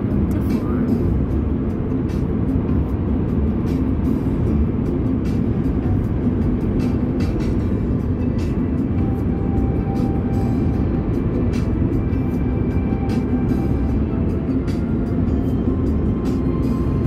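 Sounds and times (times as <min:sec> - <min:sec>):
faint music: 0:00.0 - 0:17.0.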